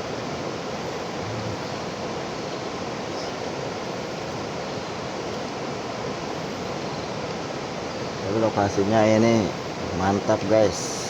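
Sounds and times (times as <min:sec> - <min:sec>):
river water flowing over rocks: 0:00.0 - 0:11.0.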